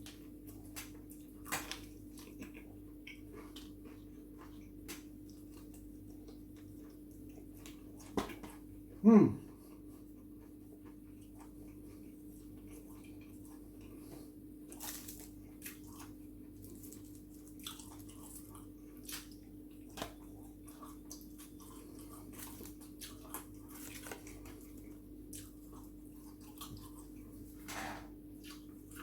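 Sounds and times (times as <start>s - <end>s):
person chewing crunchy food: 0.0s - 8.9s, 9.5s - 29.0s.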